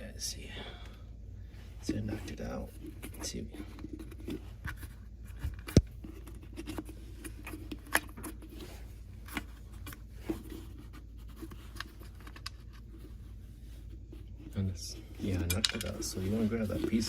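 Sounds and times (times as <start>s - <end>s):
light scraping: 1.5s - 17.0s.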